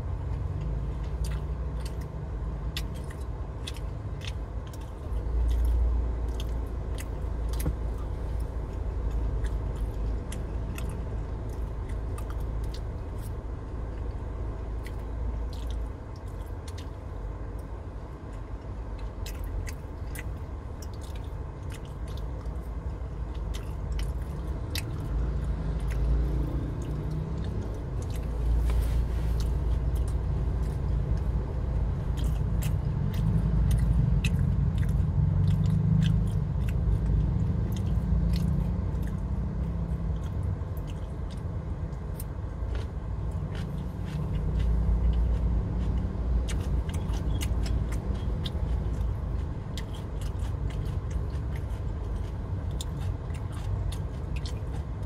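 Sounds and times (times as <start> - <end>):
low rumble in car cabin: 0.0 - 55.0
person chewing food: 0.1 - 55.0.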